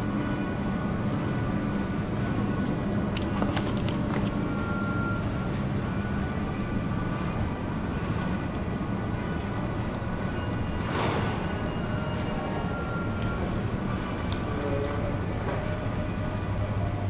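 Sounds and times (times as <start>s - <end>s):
refrigerator and ventilation hum: 0.0s - 17.0s.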